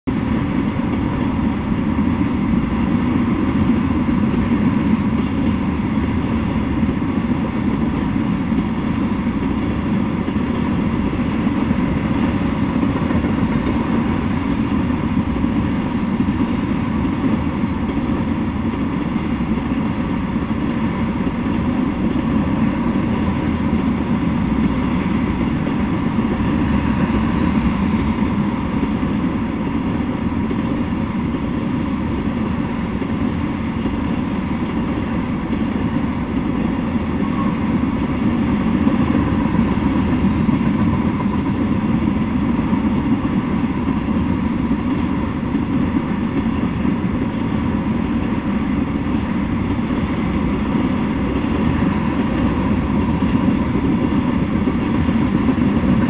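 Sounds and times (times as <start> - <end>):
freight train rolling past: 0.1 - 56.0.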